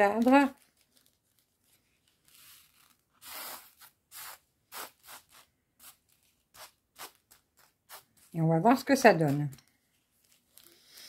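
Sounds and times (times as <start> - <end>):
beads scratching on canvas: 0.0 - 11.0.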